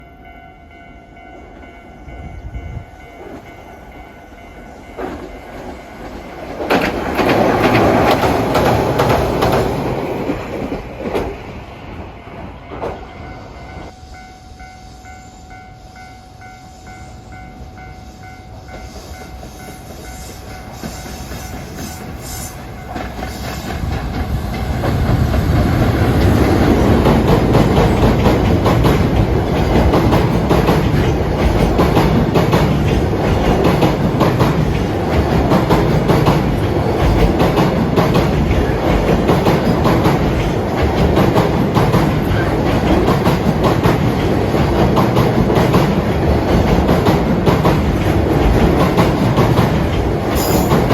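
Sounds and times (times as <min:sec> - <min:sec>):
train wheels clattering on rails: 0:03.1 - 0:14.0, 0:17.6 - 0:50.9.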